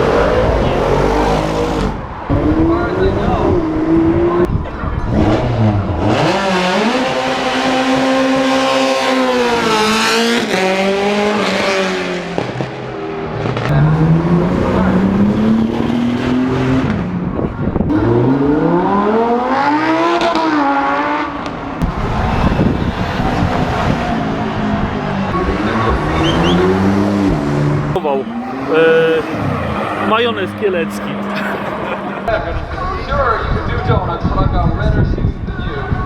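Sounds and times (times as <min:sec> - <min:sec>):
sports car engines revving: 0:00.0 - 0:32.4.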